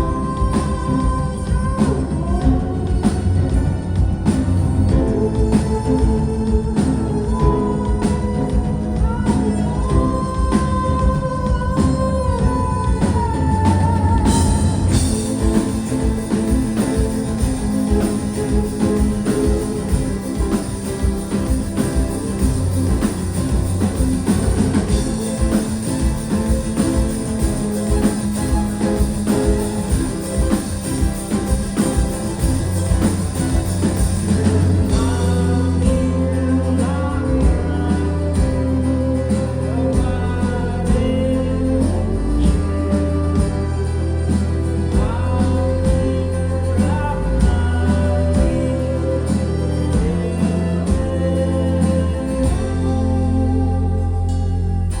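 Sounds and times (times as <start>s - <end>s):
person singing: 0.0s - 55.0s
rock band playing live: 0.0s - 55.0s.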